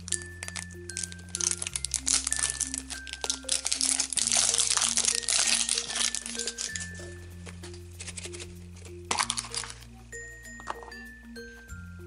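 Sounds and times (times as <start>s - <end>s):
foil wrapper crinkling: 0.0s - 9.8s
background music: 0.0s - 12.0s.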